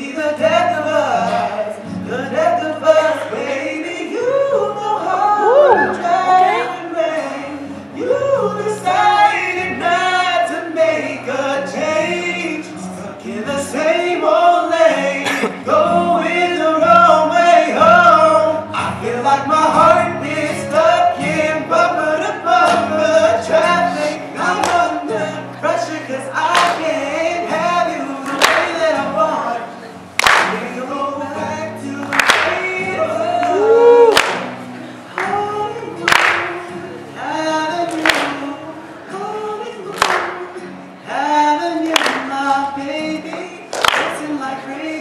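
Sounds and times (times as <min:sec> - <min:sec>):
man singing into microphone: 0:00.0 - 0:45.0.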